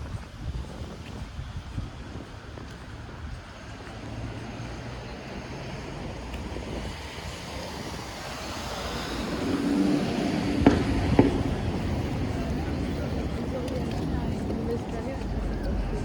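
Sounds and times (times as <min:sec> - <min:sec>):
city traffic noise: 0:00.0 - 0:16.0
low engine hum: 0:00.0 - 0:16.0
vehicle approaching: 0:02.1 - 0:16.0.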